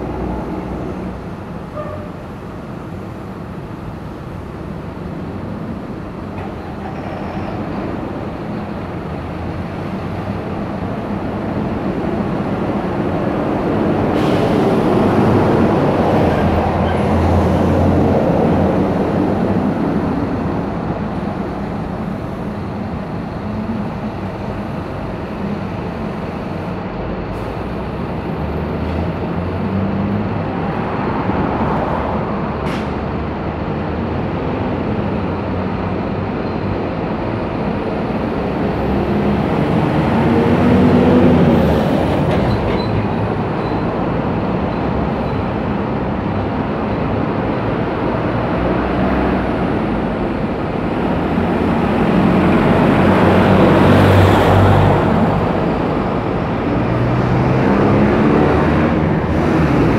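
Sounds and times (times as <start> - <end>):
heavy vehicle engine running: 0.0 - 59.9.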